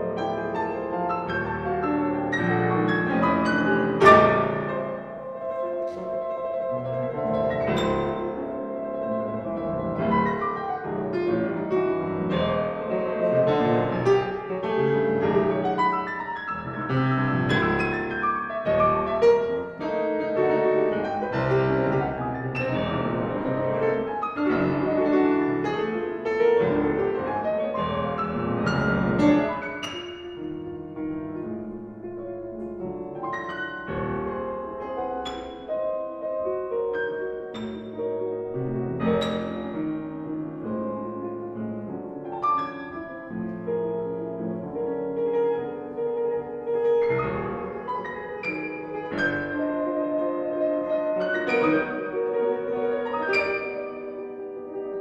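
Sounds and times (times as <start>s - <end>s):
grand piano rapid notes: 0.0s - 55.0s.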